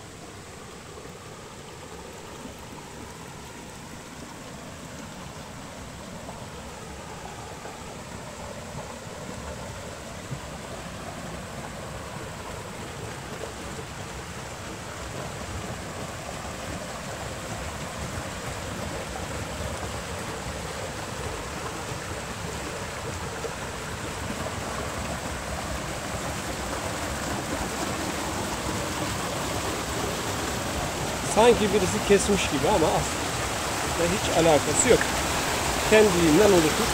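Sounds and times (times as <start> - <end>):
stream rushing over cascades: 0.0 - 36.9.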